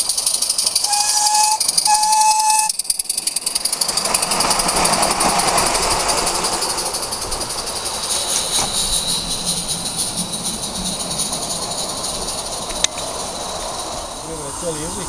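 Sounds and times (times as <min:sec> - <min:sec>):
steam locomotive hissing and puffing: 0:00.0 - 0:15.0.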